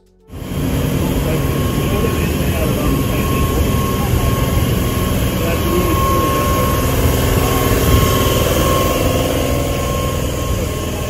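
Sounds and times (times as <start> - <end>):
constant high tone: 0.0 - 11.0
train equipment humming: 0.0 - 11.0.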